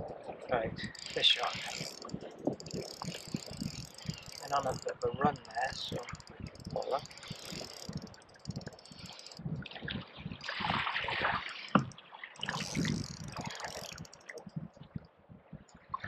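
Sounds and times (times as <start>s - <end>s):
fishing reel clicking: 0.0s - 9.8s, 10.4s - 10.7s, 11.4s - 14.6s
water lapping against plastic hull: 0.0s - 16.0s.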